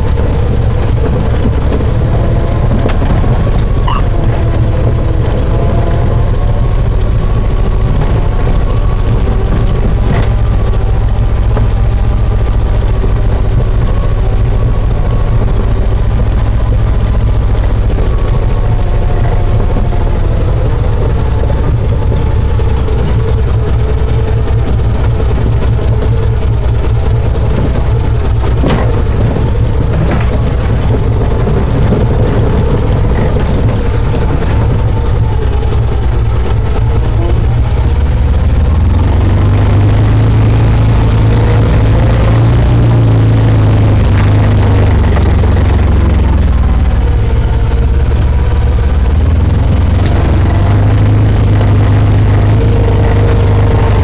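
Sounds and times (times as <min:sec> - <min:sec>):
engine running at low speed: 0:00.0 - 0:54.0.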